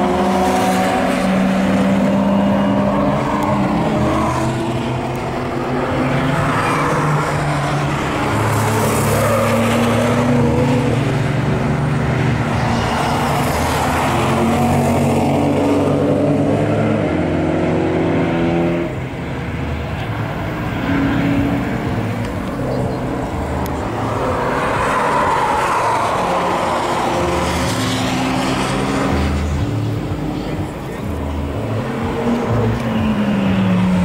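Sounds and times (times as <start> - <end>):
cars accelerating past: 0.0 - 34.0.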